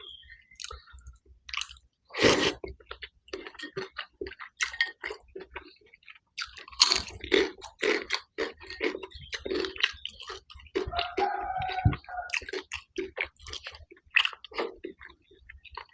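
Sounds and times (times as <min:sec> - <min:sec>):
wet chewing: 0:01.5 - 0:15.9.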